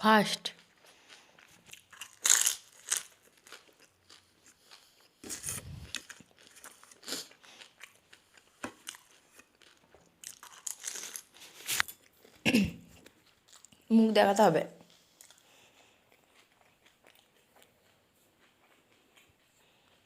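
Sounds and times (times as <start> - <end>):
crunching and chewing: 0.5 - 13.9, 14.8 - 20.0.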